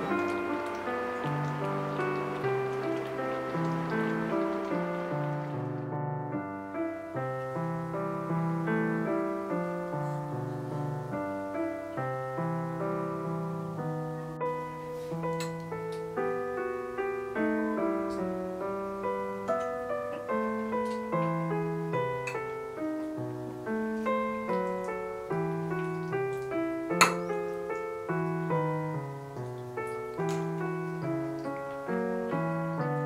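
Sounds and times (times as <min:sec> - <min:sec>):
soft piano music: 0:00.0 - 0:33.0.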